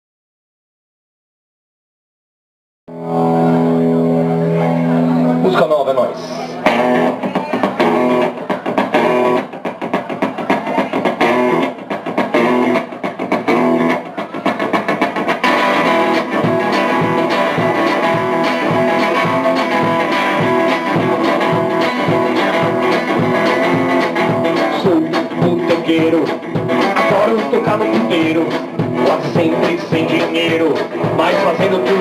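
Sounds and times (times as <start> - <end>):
electric guitar choppy chords: 2.9 - 32.0
rock band playing: 2.9 - 32.0.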